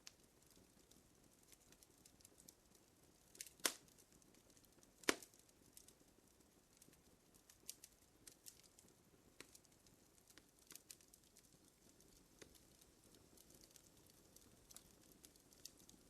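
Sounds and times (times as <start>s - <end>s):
loud fire snaps: 0.0s - 16.0s
wood fire crackling: 0.0s - 16.0s.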